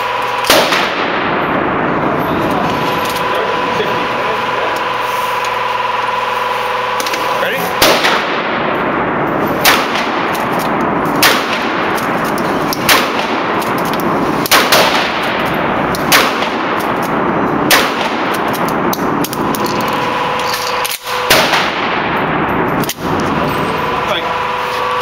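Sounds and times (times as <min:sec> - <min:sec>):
shotgun blasts echoing indoors: 0:00.0 - 0:05.0, 0:05.6 - 0:23.6.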